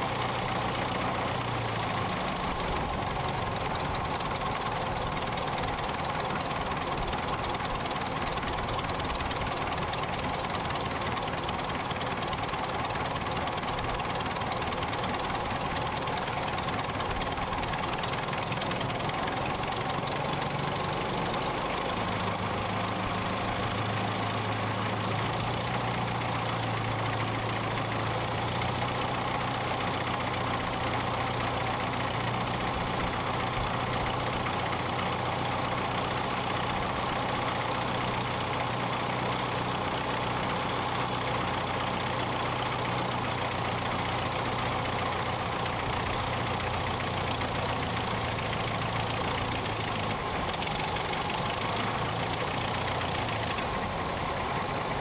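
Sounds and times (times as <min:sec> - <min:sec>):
aircraft engine running: 0:00.0 - 0:55.0.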